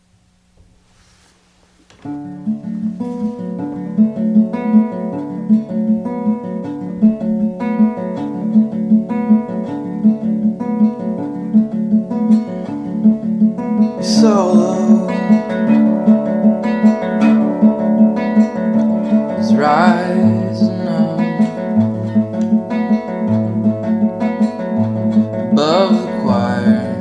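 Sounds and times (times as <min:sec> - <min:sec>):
acoustic guitar picking: 0:00.0 - 0:27.0.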